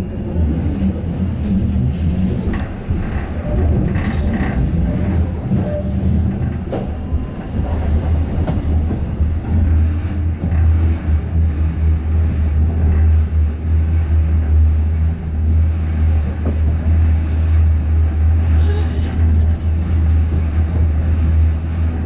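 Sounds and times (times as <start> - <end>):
tram cabin rumble: 0.0 - 22.0.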